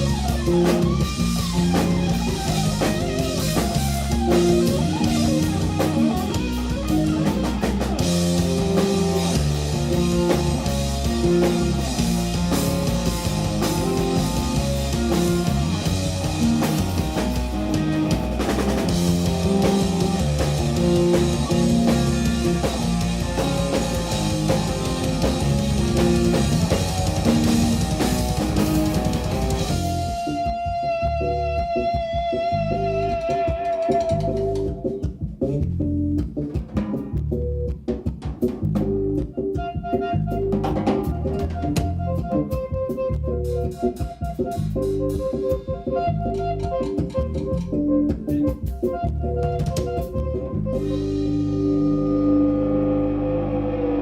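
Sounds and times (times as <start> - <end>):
bass guitar: 0.0 - 54.0
drum kit beat: 0.0 - 54.0
electric guitar lines: 0.0 - 54.0.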